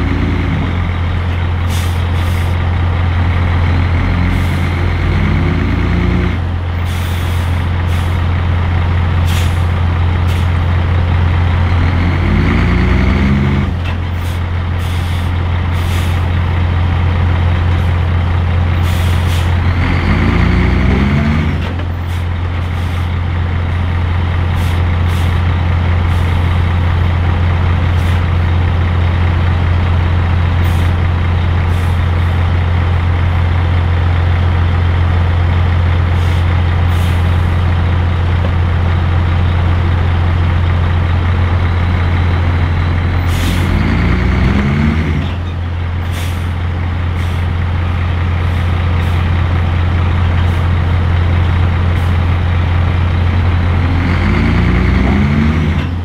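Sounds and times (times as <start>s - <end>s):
heavy diesel truck engine running: 0.0s - 56.0s.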